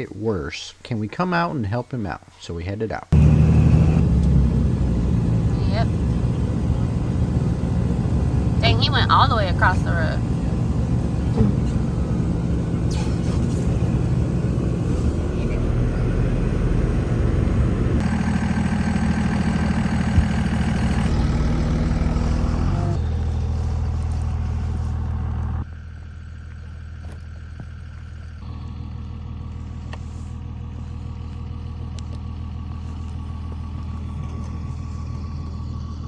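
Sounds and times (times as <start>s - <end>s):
vehicle engine droning: 3.1s - 36.0s.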